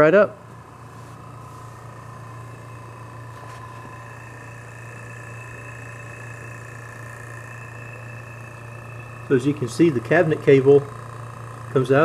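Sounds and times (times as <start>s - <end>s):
refrigerator compressor humming: 0.0s - 12.0s.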